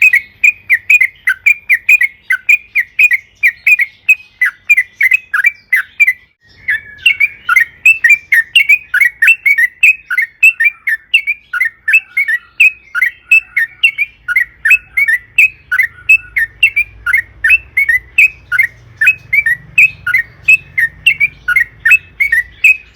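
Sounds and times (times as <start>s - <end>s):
bulbul chattering song: 0.0s - 22.9s.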